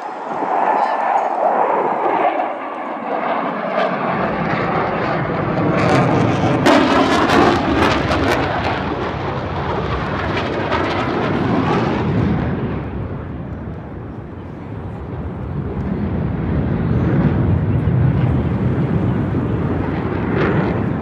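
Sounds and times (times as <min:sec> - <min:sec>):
jets flying past overhead: 0:00.0 - 0:21.0.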